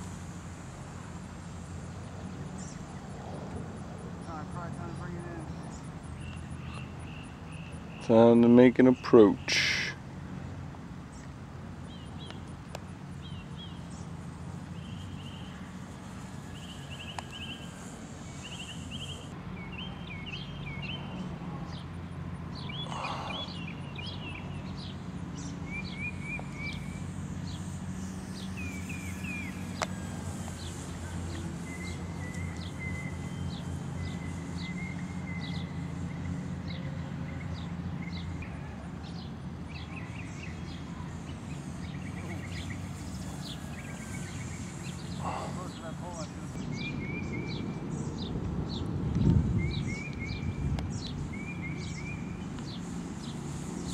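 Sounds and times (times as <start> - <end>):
steady low drone: 0.0 - 53.9
bird chirps and trills: 1.4 - 3.3, 4.2 - 10.0, 11.1 - 53.9.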